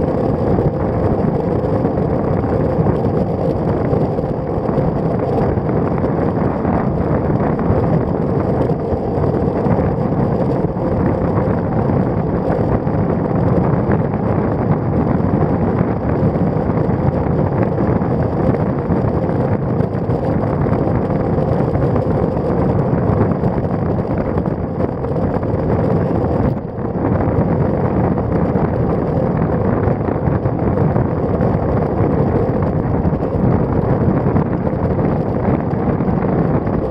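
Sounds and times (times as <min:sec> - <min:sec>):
wind noise on microphone: 0:00.0 - 0:36.9.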